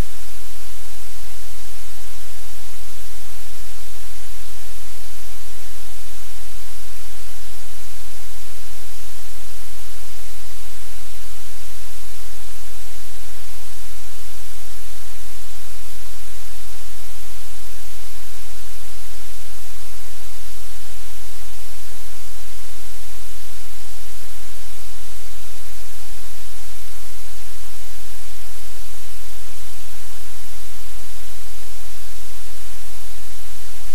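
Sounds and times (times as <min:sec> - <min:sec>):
static-like hiss: 0:00.0 - 0:33.9.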